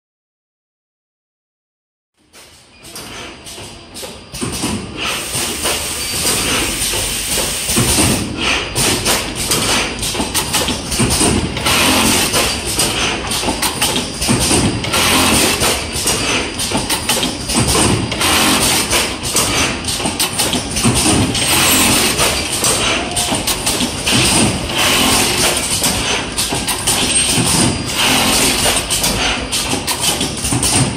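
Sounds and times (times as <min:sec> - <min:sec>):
sewing machine clattering: 0:02.4 - 0:30.9.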